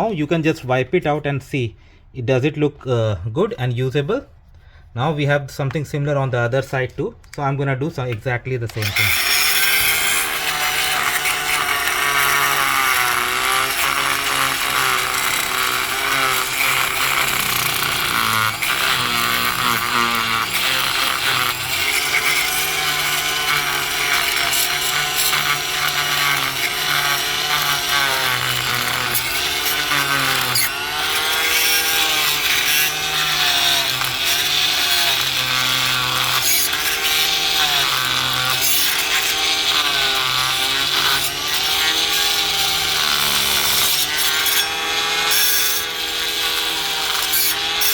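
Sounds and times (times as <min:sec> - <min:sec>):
oscillating multi-tool grinding: 0:08.7 - 0:47.9.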